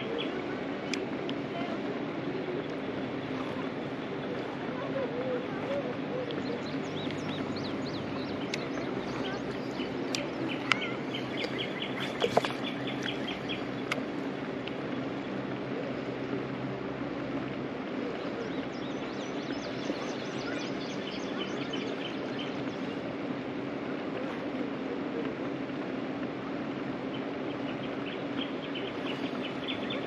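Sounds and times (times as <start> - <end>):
birds calling: 0.0 - 16.3, 18.0 - 23.2, 27.0 - 30.0
river water flowing over rocks: 0.0 - 30.0.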